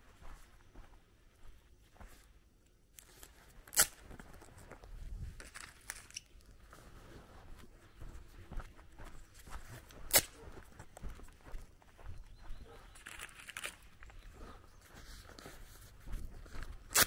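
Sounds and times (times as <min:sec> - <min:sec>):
footsteps with scuffs: 0:00.0 - 0:02.4, 0:03.0 - 0:17.0.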